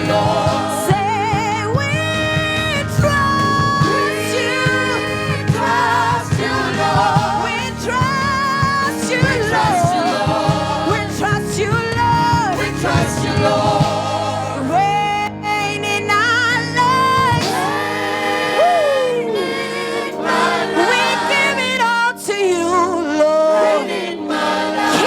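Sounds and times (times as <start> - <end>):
gospel choir singing: 0.0 - 25.0
instrumental accompaniment: 0.0 - 25.0.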